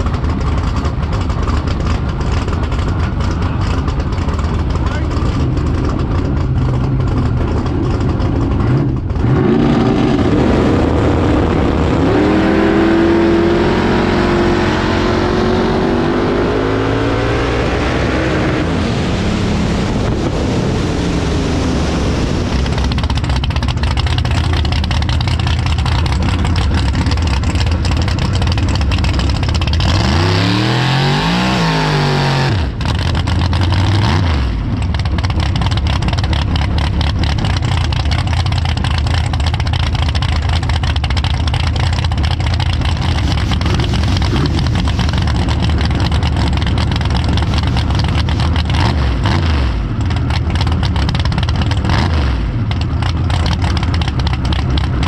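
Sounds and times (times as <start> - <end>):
drag car engine at full throttle: 0.0 - 55.0.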